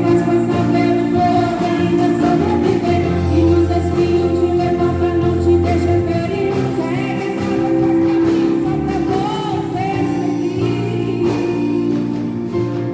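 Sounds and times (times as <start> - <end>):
group singing gospel: 0.0 - 12.9
instrumental accompaniment: 0.0 - 12.9.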